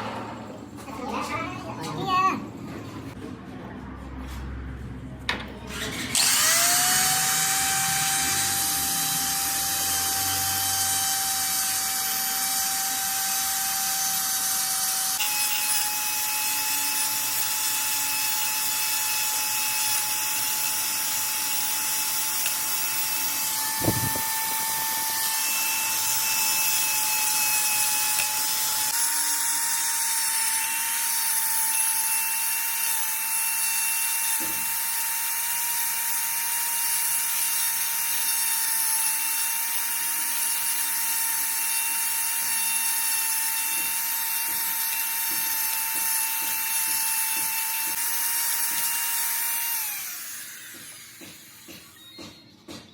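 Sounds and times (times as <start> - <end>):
electric power tool whining: 5.6 - 52.9.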